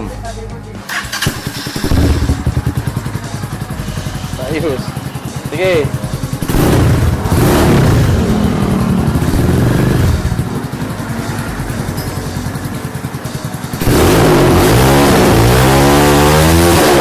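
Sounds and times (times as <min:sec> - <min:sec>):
motorcycle engine revving: 0:00.9 - 0:17.0.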